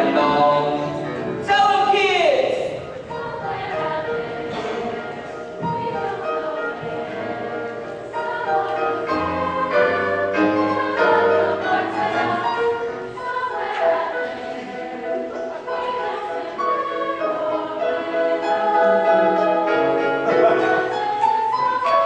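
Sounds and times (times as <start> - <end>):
ensemble chorus singing show tune: 0.0 - 22.0.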